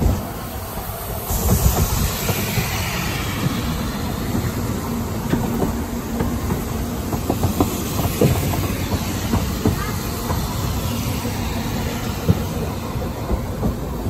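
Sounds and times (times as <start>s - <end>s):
train rumbling on track: 0.0s - 14.0s
wheel clacks on rails: 0.0s - 14.0s.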